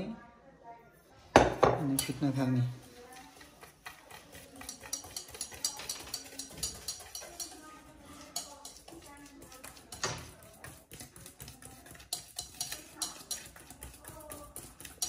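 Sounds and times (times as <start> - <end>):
whisk scraping metal bowl: 1.6 - 15.0.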